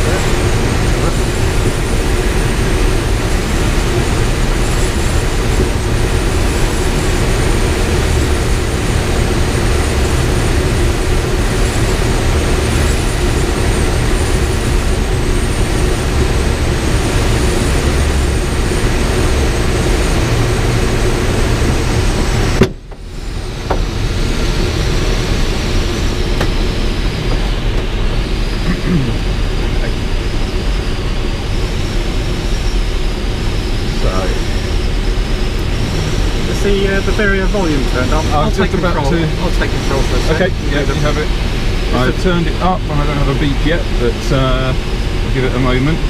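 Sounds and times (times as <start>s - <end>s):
rush of air over canopy: 0.0s - 46.0s.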